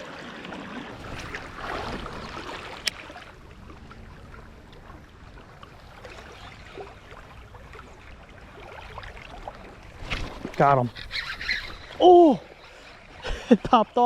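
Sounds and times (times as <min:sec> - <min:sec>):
flowing river water: 0:00.0 - 0:14.0.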